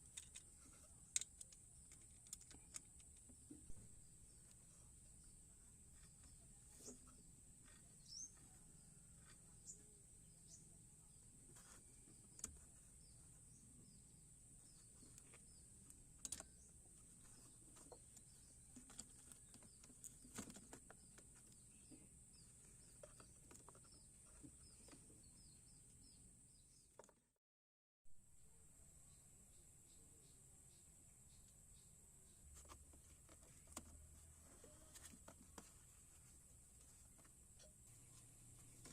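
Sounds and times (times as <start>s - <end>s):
small bird chirps: 0.7s - 27.1s, 28.6s - 38.9s.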